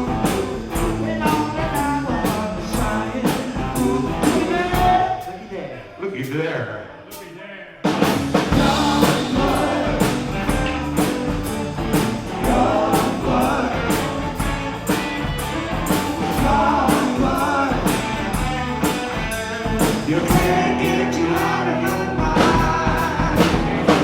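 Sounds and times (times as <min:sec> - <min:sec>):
rock and roll band playing: 0:00.0 - 0:05.4, 0:07.8 - 0:24.0.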